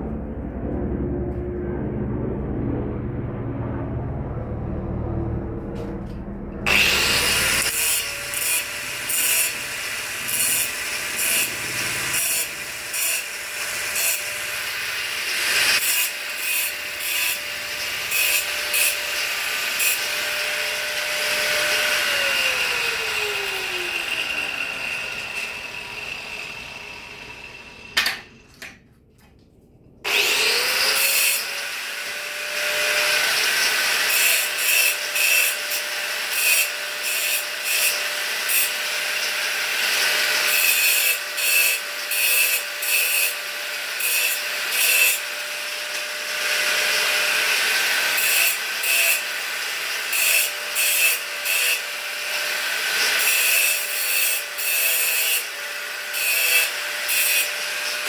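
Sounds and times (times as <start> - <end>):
power tool grinding: 5.8 - 28.8, 30.0 - 58.0.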